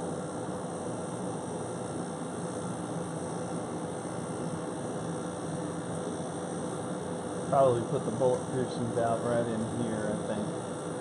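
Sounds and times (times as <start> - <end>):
compressor humming: 0.0 - 11.0
fan air rushing: 0.0 - 11.0.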